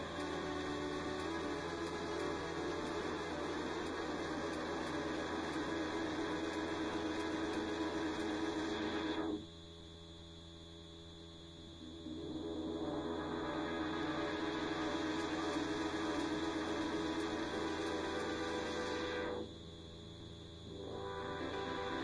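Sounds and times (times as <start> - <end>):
electronic drone: 0.0 - 9.6, 11.4 - 22.0
low mains hum: 0.0 - 22.0.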